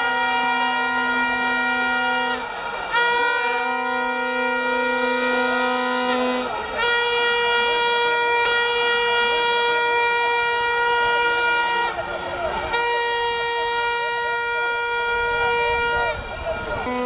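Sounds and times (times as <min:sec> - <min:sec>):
horns blowing long blasts: 0:00.0 - 0:17.0.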